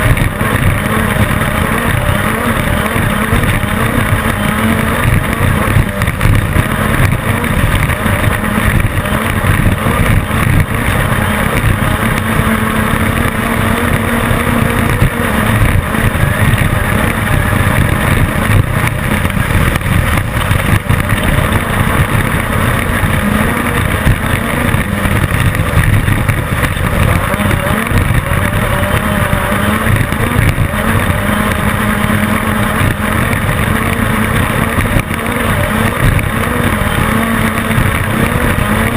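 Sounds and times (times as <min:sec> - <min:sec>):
race car engine running high: 0:00.0 - 0:38.9
rumbling and rattling over rough ground: 0:00.0 - 0:38.9.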